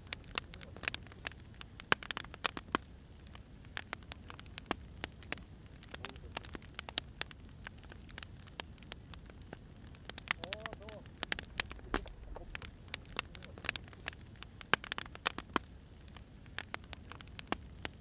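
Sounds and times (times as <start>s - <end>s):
firewood crackling and popping: 0.0s - 18.0s
low rumble of flames: 0.0s - 18.0s.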